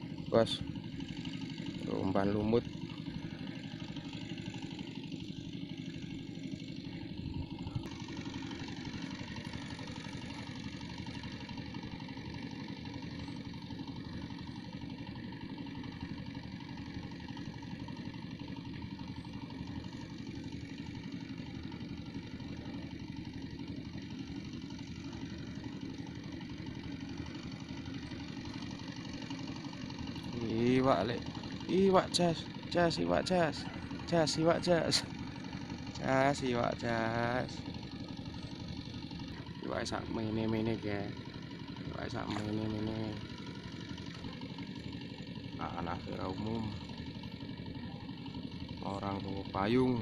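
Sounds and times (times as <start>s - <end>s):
motor running steadily: 0.0s - 50.0s.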